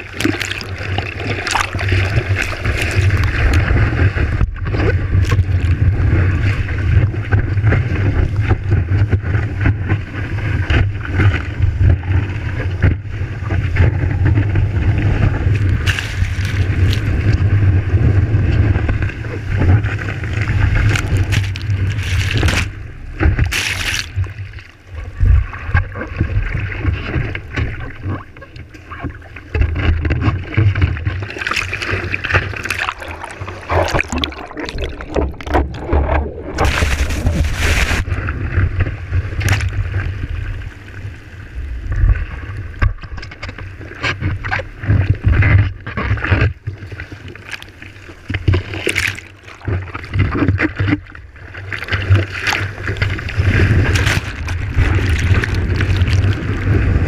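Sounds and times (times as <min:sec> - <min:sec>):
wind rumble on microphone: 0:00.0 - 0:32.7, 0:33.3 - 0:47.4, 0:48.1 - 0:57.0
seawater rushing and splashing: 0:00.0 - 0:42.8, 0:43.4 - 0:57.0.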